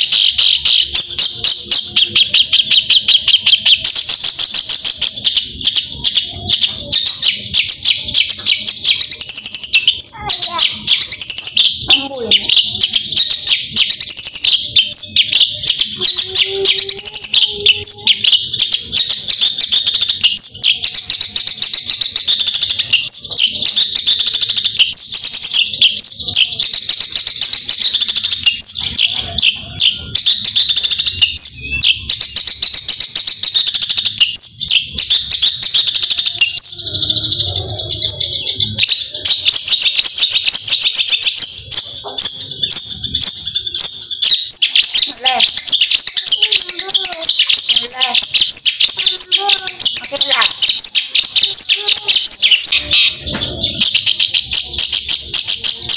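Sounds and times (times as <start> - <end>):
bird singing high chattering notes: 0.0 - 55.9.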